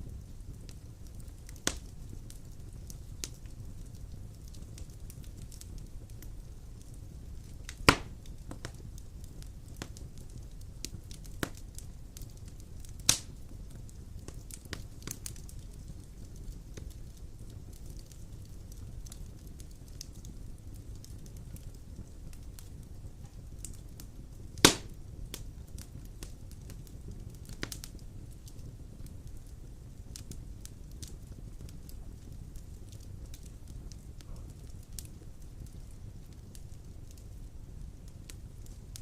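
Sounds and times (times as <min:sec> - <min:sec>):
fire crackles and pops: 0:00.0 - 0:39.0
fire low rumble: 0:00.0 - 0:39.0.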